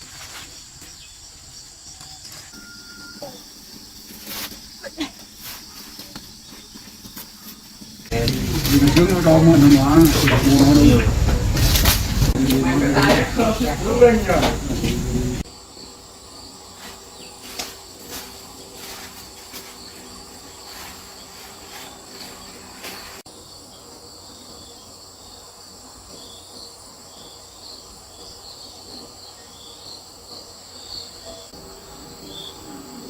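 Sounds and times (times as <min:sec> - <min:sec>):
insects chirping in shrill drone: 0:00.0 - 0:33.0.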